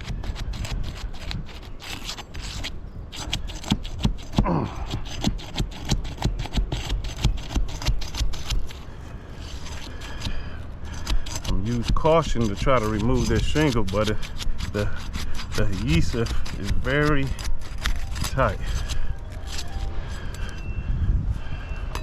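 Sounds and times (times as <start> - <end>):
roof shingle scraping and clicking: 0.0 - 20.5.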